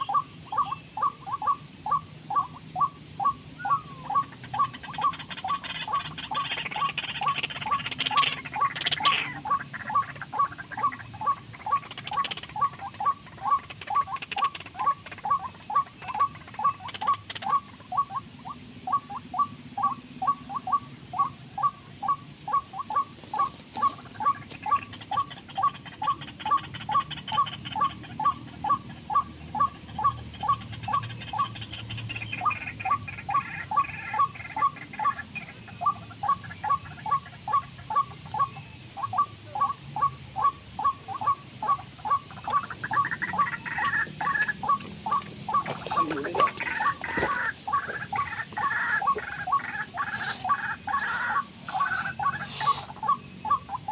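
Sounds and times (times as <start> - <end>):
bird call notes: 0.0 - 53.9.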